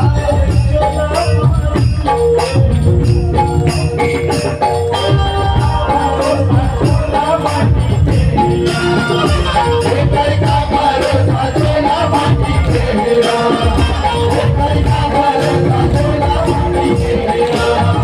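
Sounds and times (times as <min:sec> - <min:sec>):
drums beating: 0:00.0 - 0:18.0
held melody line: 0:00.0 - 0:18.0
jingling percussion: 0:00.0 - 0:18.0.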